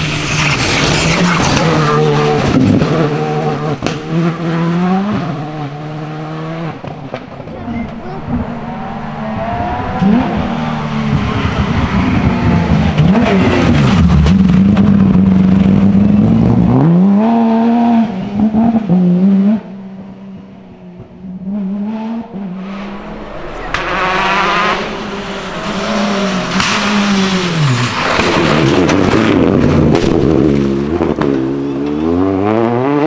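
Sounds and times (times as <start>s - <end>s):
rally car approaching: 0.0s - 33.0s
rally car passing at speed: 0.0s - 33.0s.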